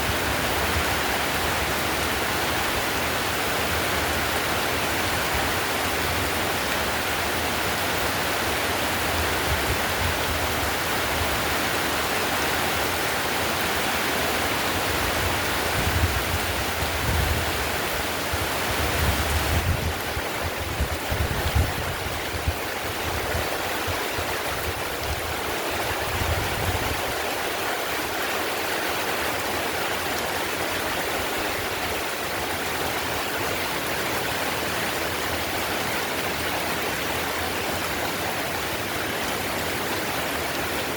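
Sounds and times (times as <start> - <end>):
heavy rain on a tiled roof: 0.0 - 40.9.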